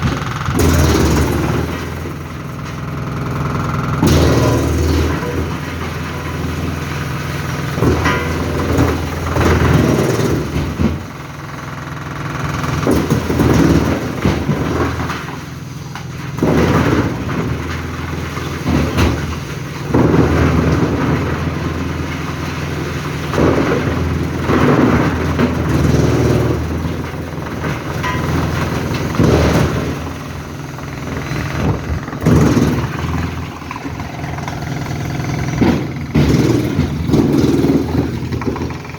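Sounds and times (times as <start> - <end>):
wood chipper engine drone: 0.0 - 38.9.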